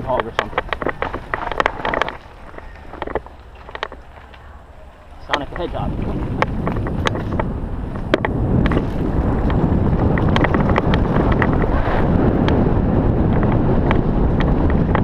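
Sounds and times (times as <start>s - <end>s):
bike clicks and rattles: 0.0s - 15.0s
wind buffeting microphone: 0.0s - 15.0s.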